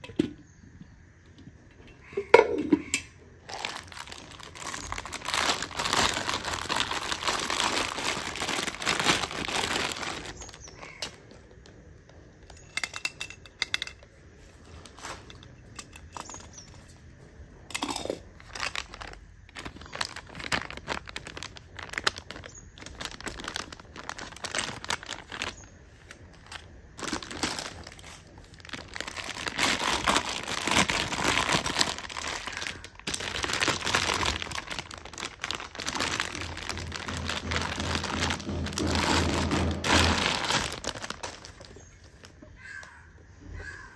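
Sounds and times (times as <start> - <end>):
plastic bags crinkling: 3.4 - 17.0, 17.7 - 43.0.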